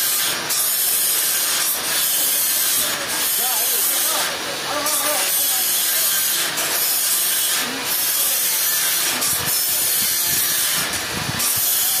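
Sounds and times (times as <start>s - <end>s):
sawmill blade cutting log: 0.0s - 12.0s.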